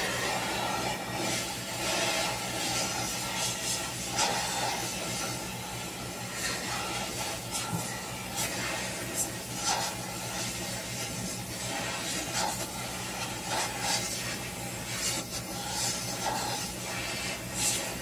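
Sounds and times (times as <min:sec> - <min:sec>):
gas torch flame hissing: 0:00.0 - 0:18.0.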